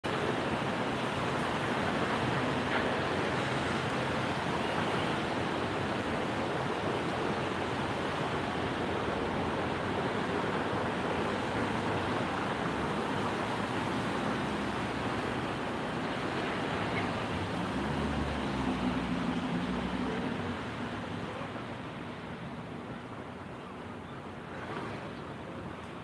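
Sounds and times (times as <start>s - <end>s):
traffic on wet street: 0.0s - 26.0s
tyres swishing through water: 0.0s - 26.0s.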